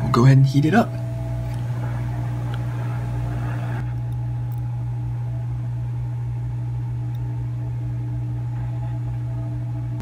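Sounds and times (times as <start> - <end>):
hot air station humming: 0.0 - 10.0.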